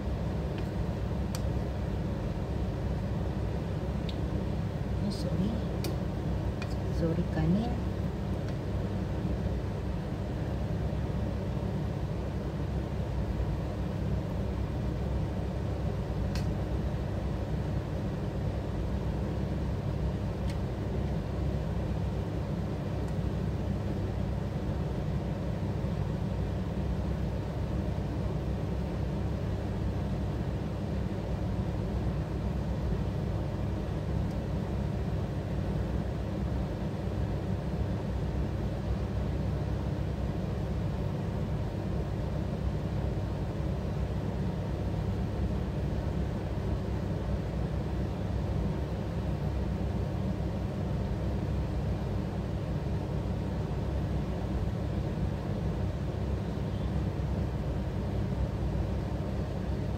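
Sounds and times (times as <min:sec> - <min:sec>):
machine running low rumble: 0:00.0 - 0:59.9.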